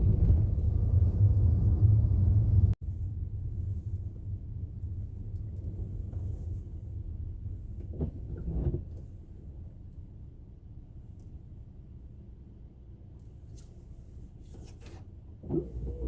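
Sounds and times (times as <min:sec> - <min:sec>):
car cabin road and engine drone: 0:00.0 - 0:16.0.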